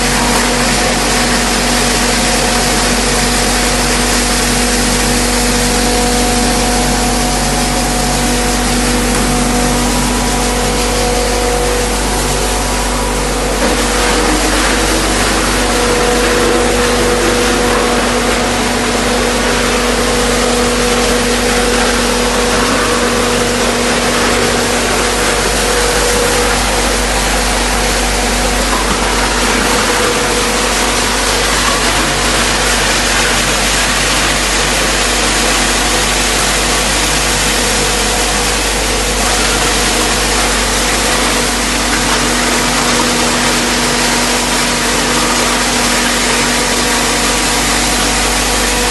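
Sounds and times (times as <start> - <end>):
foam crusher machine running: 0.0 - 48.9.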